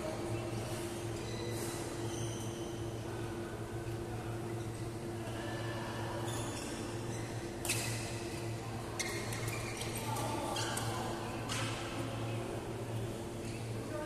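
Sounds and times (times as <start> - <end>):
low hum in large hall: 0.0 - 14.0.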